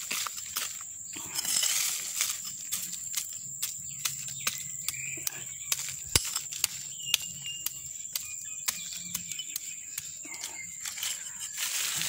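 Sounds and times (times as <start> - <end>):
garden hoe scraping dry soil: 0.0 - 12.0.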